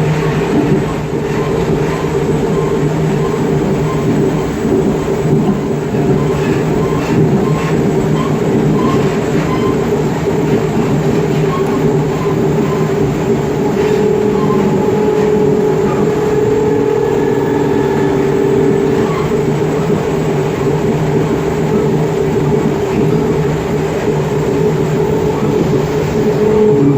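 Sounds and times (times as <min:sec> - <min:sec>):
electric train traction growl: 0:00.0 - 0:26.9
wheel and rail noise: 0:00.0 - 0:26.9.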